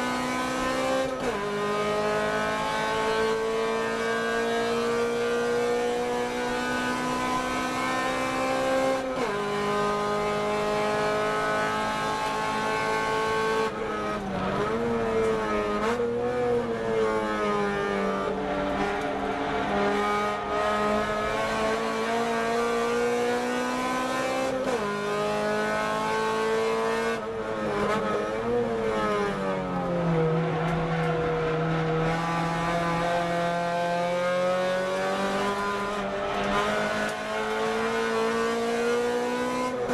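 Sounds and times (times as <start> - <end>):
car engine accelerating: 0.1 - 39.9.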